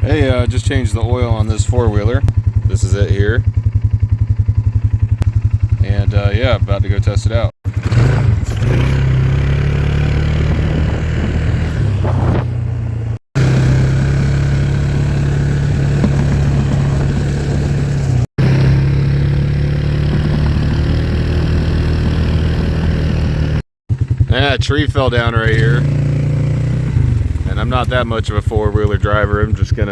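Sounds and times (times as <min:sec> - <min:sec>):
atv engine running: 0:00.0 - 0:29.9.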